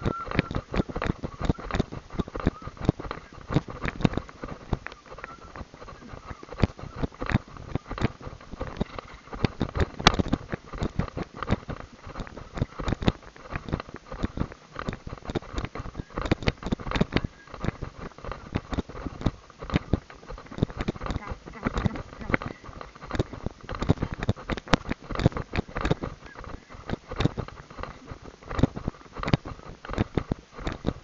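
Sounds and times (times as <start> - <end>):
horse hoofbeats trotting on sand: 0.0 - 31.0.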